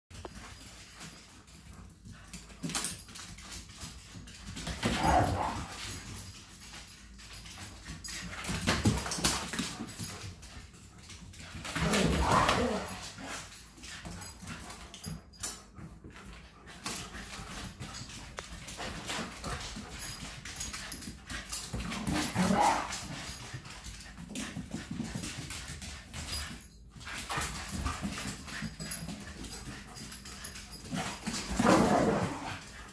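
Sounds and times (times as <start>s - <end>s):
claws clicking on hard floor: 0.1s - 32.9s.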